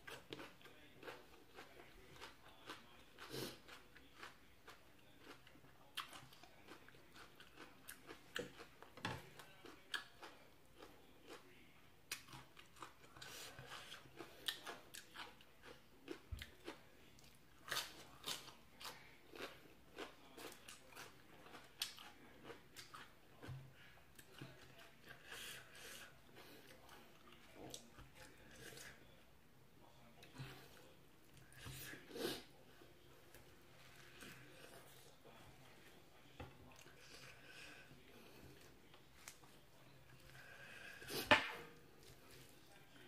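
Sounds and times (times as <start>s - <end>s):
crunchy vegetables being chewed: 0.0s - 29.2s, 29.8s - 43.0s.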